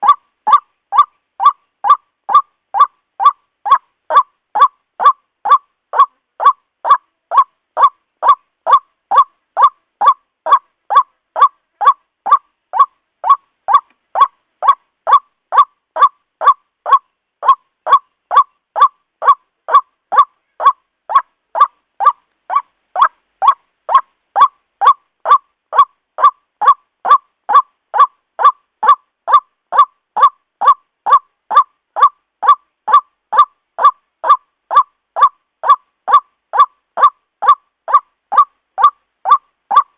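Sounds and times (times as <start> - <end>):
waterhen croaking calls: 0.0 - 39.9.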